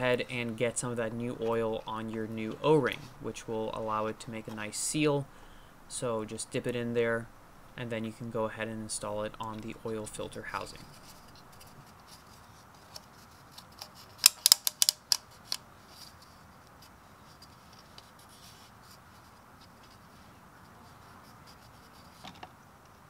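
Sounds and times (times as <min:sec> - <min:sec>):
faint handling noise: 0:00.0 - 0:05.4, 0:08.0 - 0:23.0.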